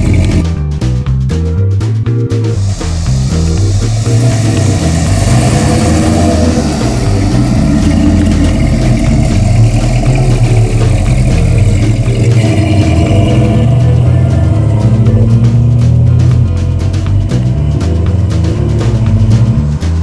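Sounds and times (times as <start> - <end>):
car engine driving off: 0.0 - 1.2, 2.3 - 20.0
background music with bass: 0.0 - 20.0.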